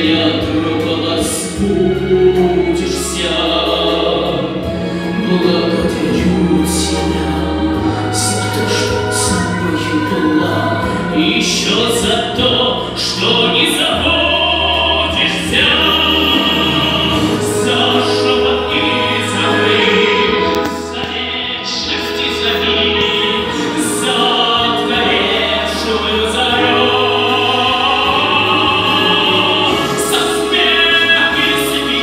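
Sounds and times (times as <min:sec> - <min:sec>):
man singing operatically: 0:00.0 - 0:32.0
recorded accompaniment: 0:00.0 - 0:32.0.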